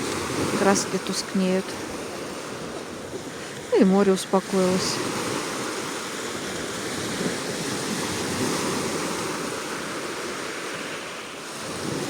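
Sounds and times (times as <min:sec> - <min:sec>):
gentle sea surf: 0:00.0 - 0:12.0.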